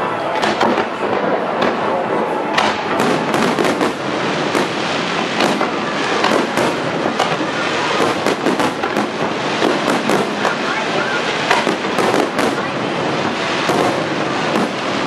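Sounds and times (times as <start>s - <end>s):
continuous crackle: 0.3s - 15.0s
firework shells bursting: 0.3s - 15.0s.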